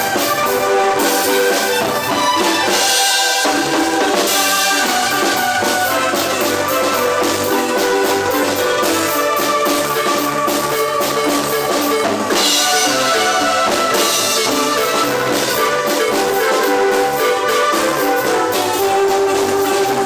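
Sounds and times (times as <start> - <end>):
drums keeping a steady beat: 0.0 - 20.0
marimba ensemble playing: 0.0 - 20.0.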